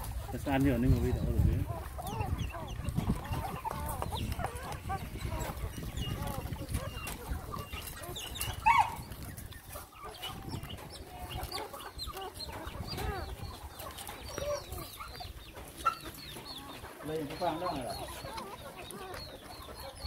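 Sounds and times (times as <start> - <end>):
puppies squeaking and whining: 0.0 - 20.0.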